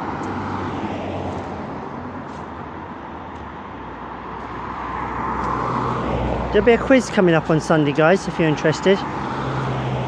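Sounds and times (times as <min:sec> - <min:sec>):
cars passing: 0:00.0 - 0:10.0.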